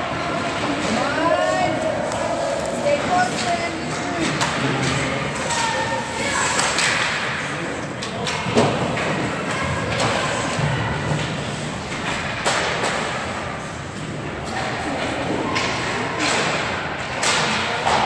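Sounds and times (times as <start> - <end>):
steady background noise: 0.0 - 18.0
hockey sticks and puck knocking: 2.0 - 13.4, 14.0 - 18.0.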